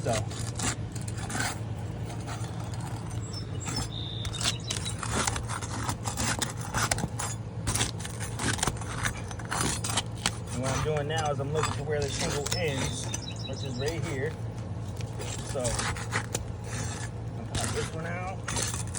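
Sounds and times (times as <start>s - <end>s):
scraping roof shingles: 0.0s - 18.9s
steady low hum: 0.0s - 18.9s.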